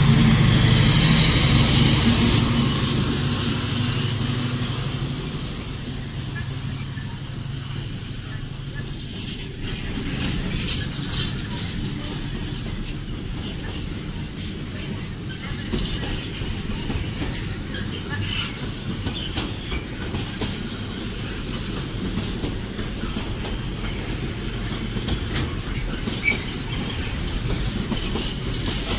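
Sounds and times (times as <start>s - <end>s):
diesel locomotive engine humming: 0.0s - 28.9s
train wheels clickety-clack: 0.0s - 28.9s.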